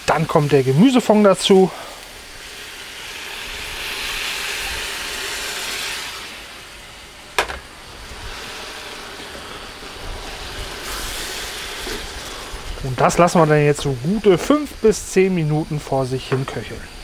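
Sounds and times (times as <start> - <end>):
stock sizzling in hot pan: 0.0 - 17.0.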